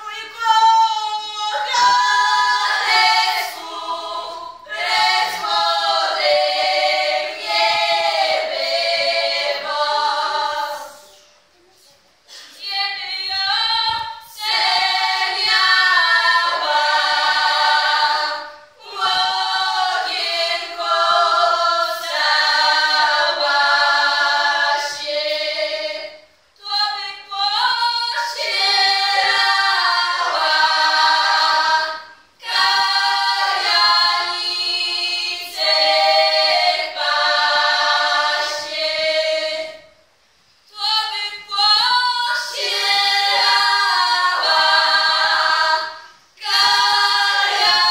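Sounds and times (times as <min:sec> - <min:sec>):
women singing a cappella in harmony: 0:00.0 - 0:11.4, 0:12.3 - 0:47.9.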